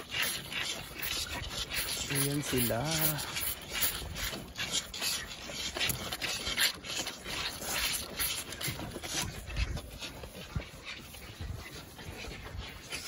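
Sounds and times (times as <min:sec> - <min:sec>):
calves slurping milk: 0:00.0 - 0:13.0.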